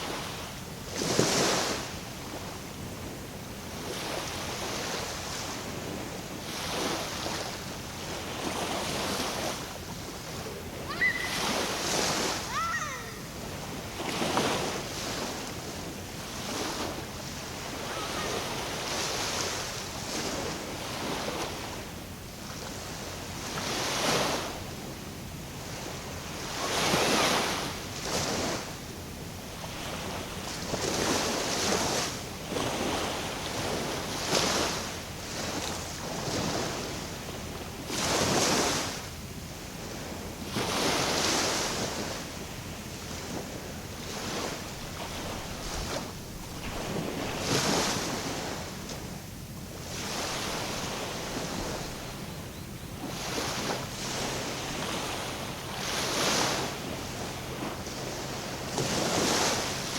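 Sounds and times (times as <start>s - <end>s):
small waves splashing at shore: 0.0s - 59.9s.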